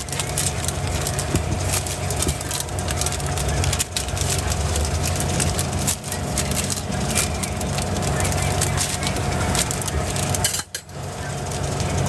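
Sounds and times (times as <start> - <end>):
low motor hum with whine: 0.0 - 12.0
sharp crackles and clicks: 0.0 - 12.0.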